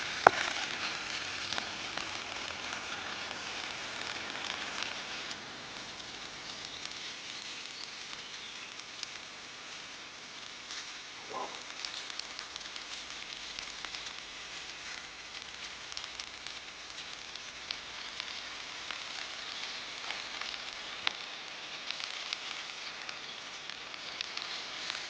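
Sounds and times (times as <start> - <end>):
campfire hissing: 0.0 - 25.0
campfire popping: 0.0 - 25.0.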